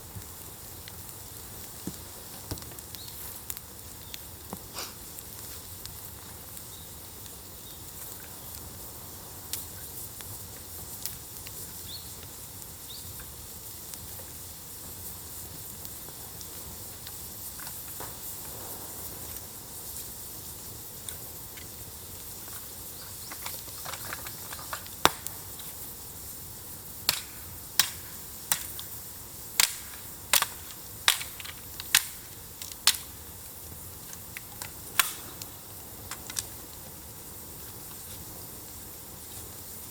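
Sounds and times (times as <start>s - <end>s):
bonfire hissing: 0.0s - 39.9s
fire crackling and popping: 0.0s - 39.9s.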